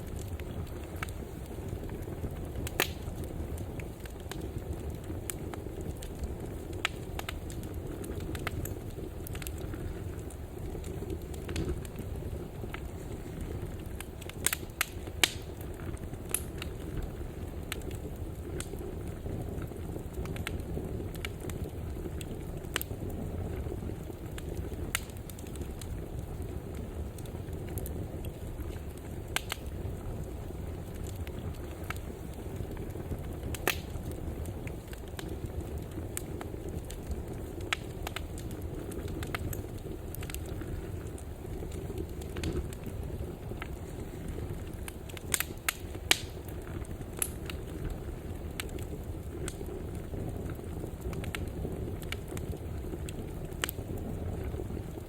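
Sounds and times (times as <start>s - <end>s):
fire crackles and pops: 0.0s - 55.0s
fire rumbling in fireplace: 0.0s - 55.0s.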